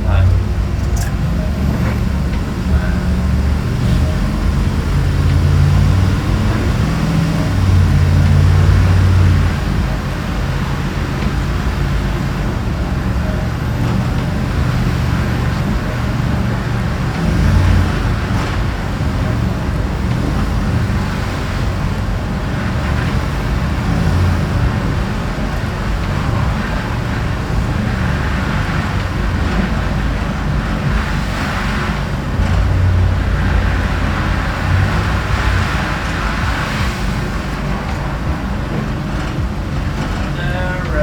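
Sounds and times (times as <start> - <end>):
vehicle engine rumble: 0.0 - 41.0.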